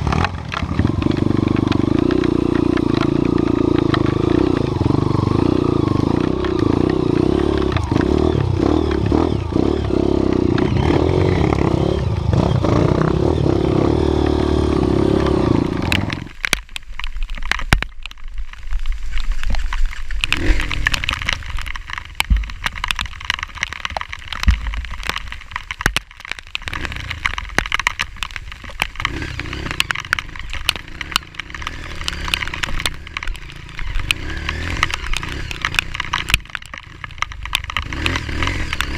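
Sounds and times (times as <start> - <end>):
motorcycle engine running: 0.0 - 16.4, 20.0 - 23.7, 26.7 - 38.9
clicks cracks and scraping: 0.0 - 38.9.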